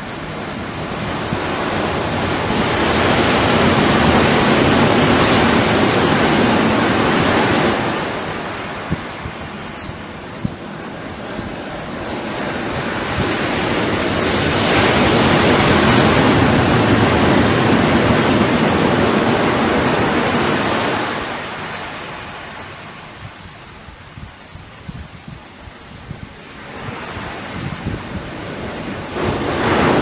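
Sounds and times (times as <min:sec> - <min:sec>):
ocean waves breaking: 0:00.0 - 0:23.8, 0:26.3 - 0:30.0.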